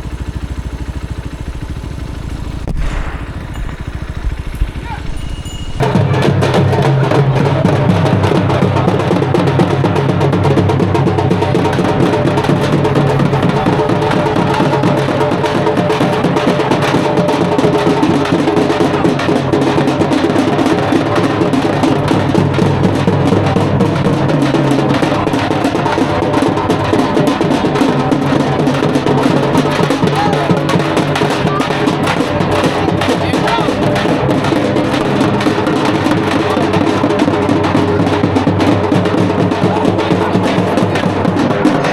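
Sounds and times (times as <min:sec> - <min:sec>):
music with prominent drums: 0:02.6 - 0:41.9.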